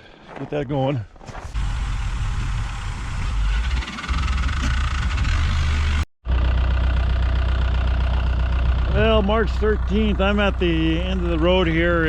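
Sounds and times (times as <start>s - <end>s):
tractor engine running: 1.5s - 12.0s.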